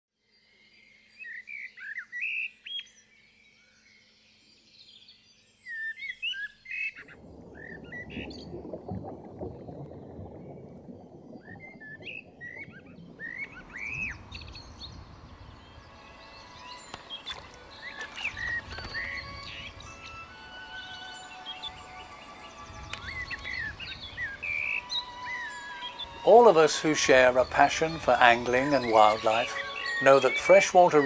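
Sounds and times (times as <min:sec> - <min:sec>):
songbirds chirping and whistling: 0:00.4 - 0:08.6, 0:09.8 - 0:31.0.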